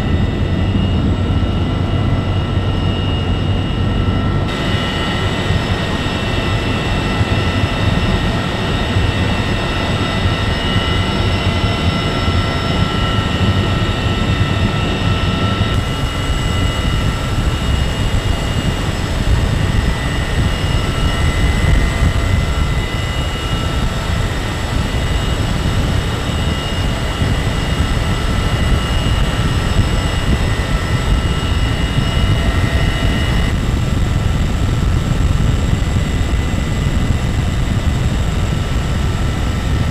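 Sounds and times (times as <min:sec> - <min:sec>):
helicopter engine and rotor rumble: 0:00.0 - 0:39.9
high steady whines: 0:00.0 - 0:39.9.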